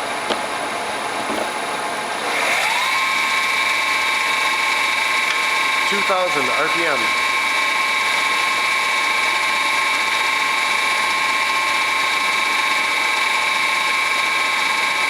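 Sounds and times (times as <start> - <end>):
mill spindle whine: 0.0 - 15.0.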